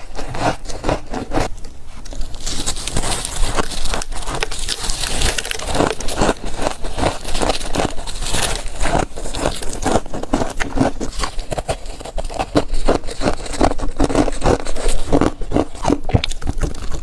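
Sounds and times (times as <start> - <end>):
crunching and chewing frost: 0.0 - 17.0.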